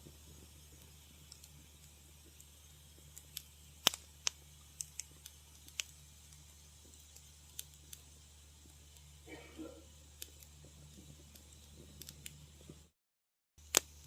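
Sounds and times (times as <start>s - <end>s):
wood fire crackling: 0.0s - 13.0s, 13.6s - 14.0s.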